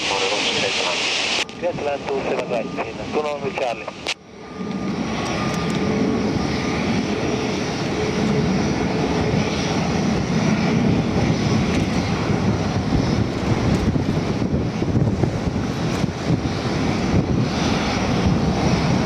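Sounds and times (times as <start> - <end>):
faint steady engine whine: 0.0 - 19.0
jet engine rumble: 0.0 - 19.0.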